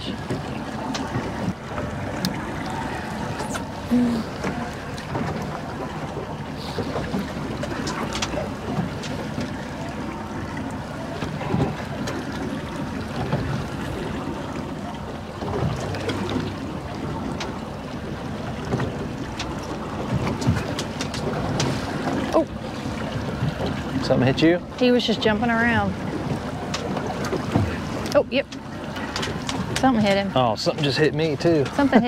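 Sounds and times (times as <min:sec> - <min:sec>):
water washing against boat hull: 0:00.0 - 0:32.0.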